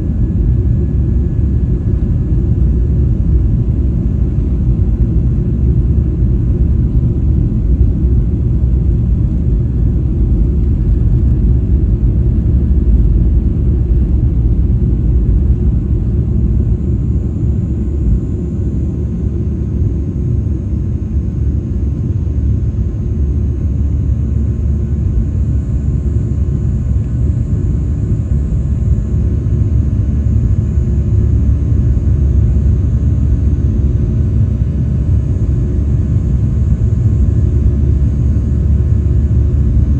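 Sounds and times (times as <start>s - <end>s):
jet engines at takeoff power: 0.0s - 39.9s.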